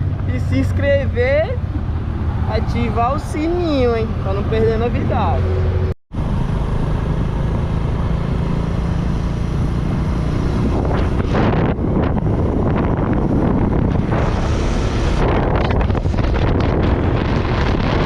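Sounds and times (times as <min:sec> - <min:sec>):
low engine drone: 0:00.0 - 0:18.0
wind buffeting microphone: 0:00.0 - 0:18.0.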